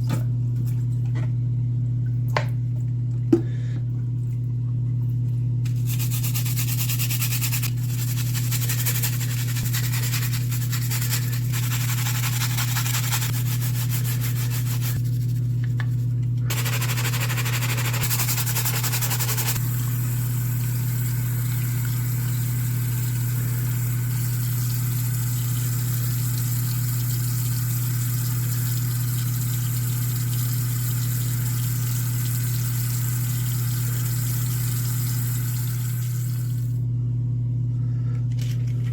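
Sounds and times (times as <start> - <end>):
appliance low hum: 0.0 - 38.9.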